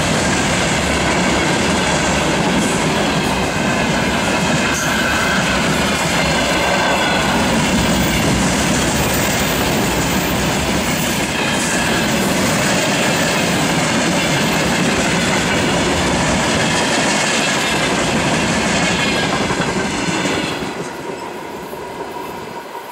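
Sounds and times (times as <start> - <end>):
freight train wheels clattering: 0.0 - 22.9.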